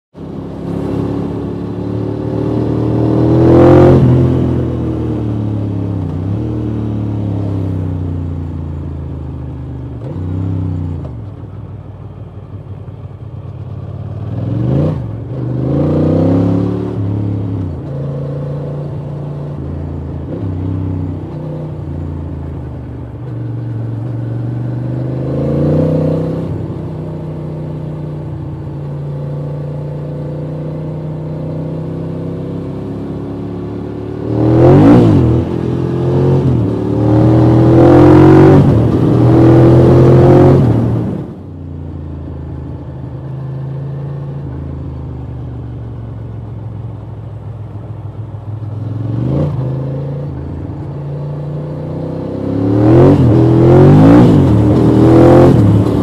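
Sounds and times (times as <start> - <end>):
motorcycle engine accelerating: 0.2 - 56.0.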